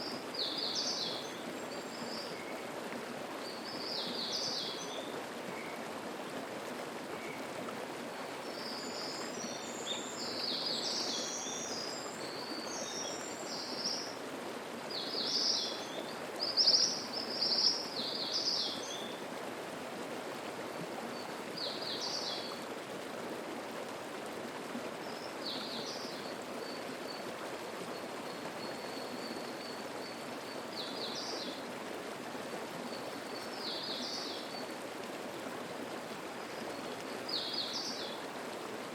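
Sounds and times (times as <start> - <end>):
stream babbling over rocks: 0.0 - 38.9.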